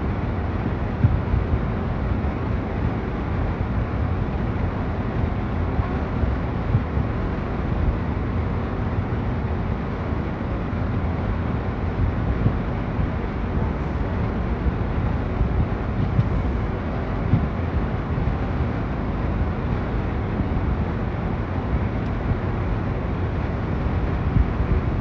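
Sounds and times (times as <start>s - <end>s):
outdoor rumble and hiss: 0.0s - 25.0s.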